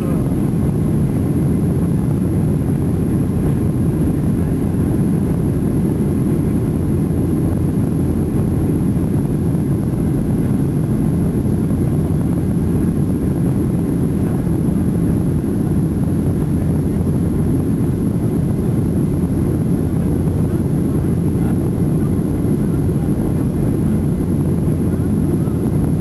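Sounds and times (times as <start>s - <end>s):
airplane cabin engine rumble: 0.0s - 26.0s.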